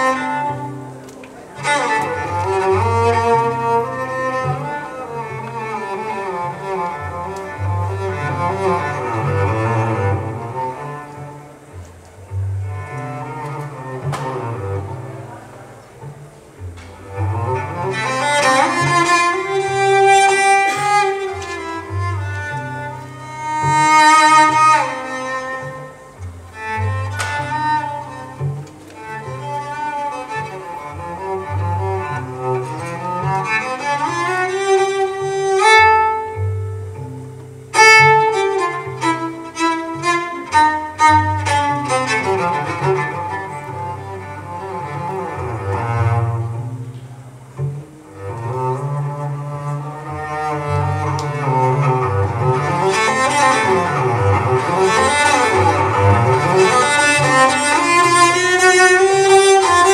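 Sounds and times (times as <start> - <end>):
solo cello bowed: 0.0 - 59.9.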